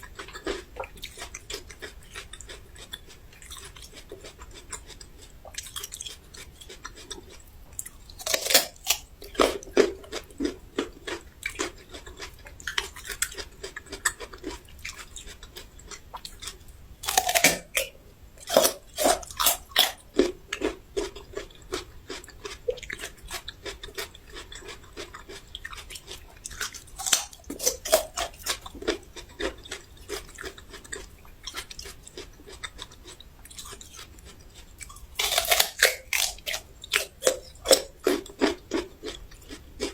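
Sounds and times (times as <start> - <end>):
person crunching raw ginger: 0.0 - 39.9
quiet chewing: 0.0 - 39.9.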